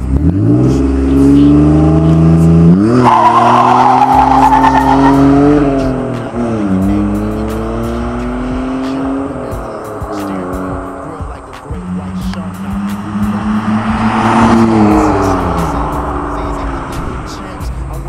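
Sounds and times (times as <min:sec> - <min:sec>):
car engine revving with rasping exhaust: 0:00.0 - 0:18.0.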